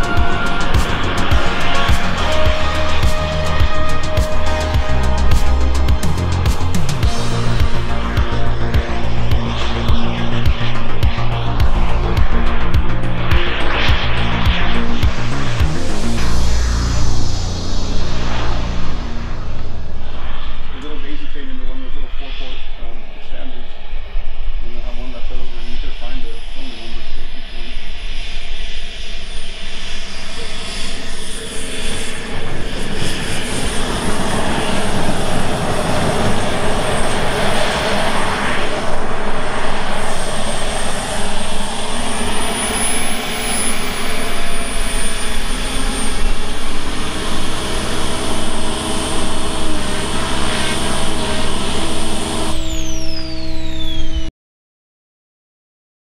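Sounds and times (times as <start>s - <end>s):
high thin whine: 0.0s - 54.3s
small jet turbine engine roar: 0.0s - 54.3s.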